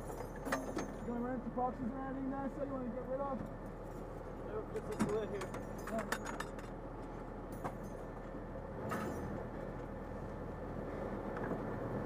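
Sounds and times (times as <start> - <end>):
engine idling hum: 0.0 - 12.0.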